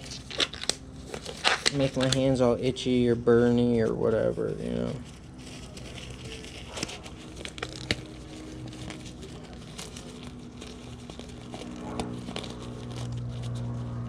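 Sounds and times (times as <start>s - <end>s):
rubber gloves crinkling: 0.0s - 14.0s.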